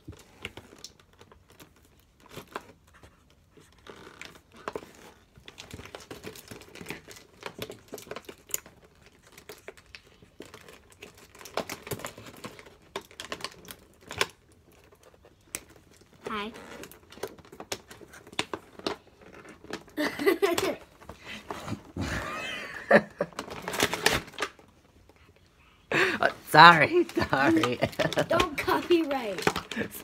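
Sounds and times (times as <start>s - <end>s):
packaging crinkling and tearing: 0.0s - 22.1s, 22.8s - 25.3s, 26.6s - 30.0s.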